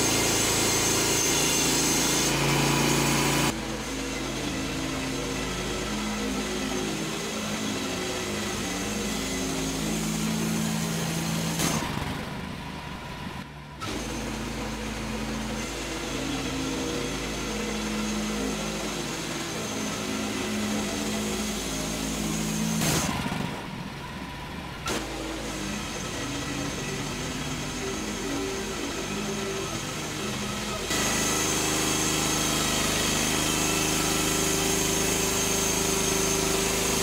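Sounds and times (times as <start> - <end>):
bandsaw mill engine and blade drone: 0.0 - 37.0.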